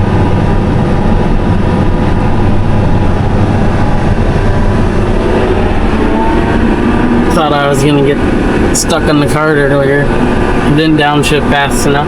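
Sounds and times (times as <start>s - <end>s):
diesel engine low drone: 0.0s - 12.0s.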